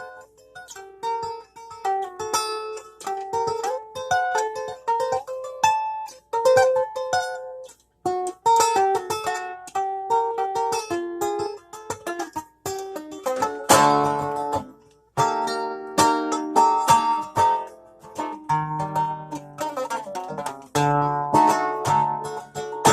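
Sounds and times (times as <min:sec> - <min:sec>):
plucked string melody: 0:00.0 - 0:22.9.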